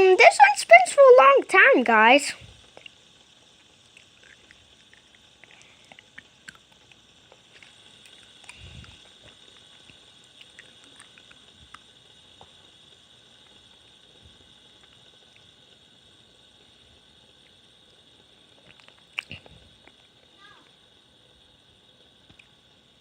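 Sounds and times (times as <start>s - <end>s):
fidget spinner whirring: 0.0s - 23.0s.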